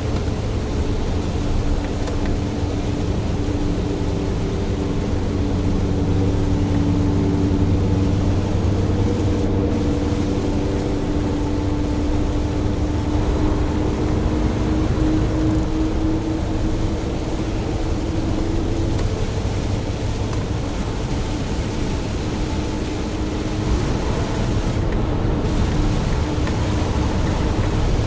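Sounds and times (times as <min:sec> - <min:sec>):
tyres hissing on wet road: 0:00.0 - 0:28.0.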